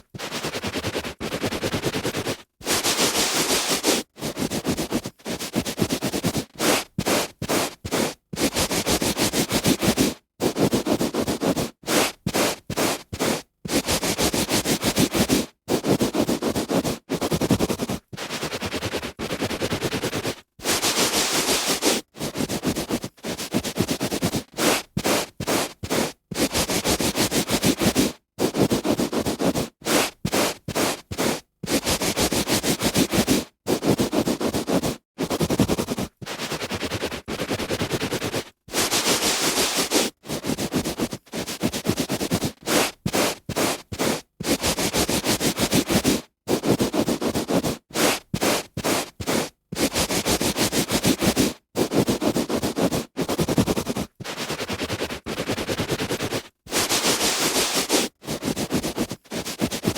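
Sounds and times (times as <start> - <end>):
hand rubbing on carpet: 0.2 - 59.9.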